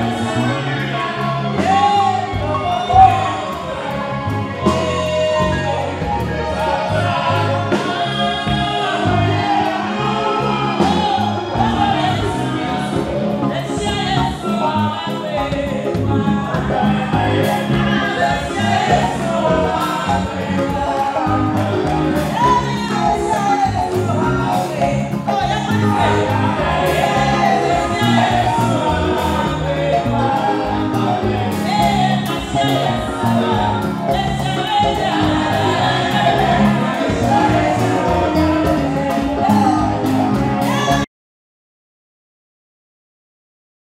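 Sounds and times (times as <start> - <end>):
woman singing into microphone: 0.0 - 41.0
band with drums and electric guitar: 0.0 - 41.1.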